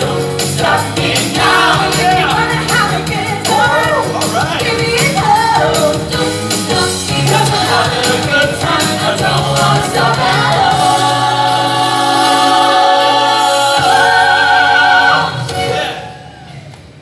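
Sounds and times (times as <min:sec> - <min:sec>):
dance music: 0:00.0 - 0:16.1.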